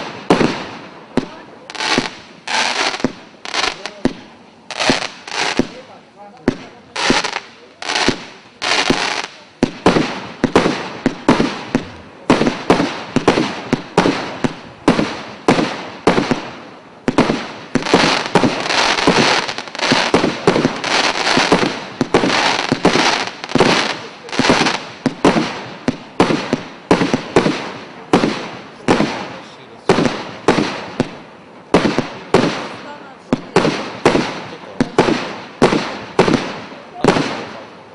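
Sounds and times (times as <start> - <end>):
fireworks shots crackling: 0.0 - 37.9.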